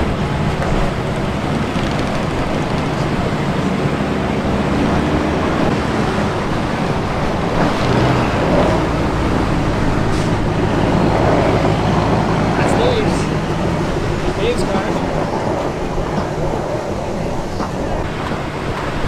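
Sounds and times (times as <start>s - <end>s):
wind or road noise rumble: 0.0s - 19.0s.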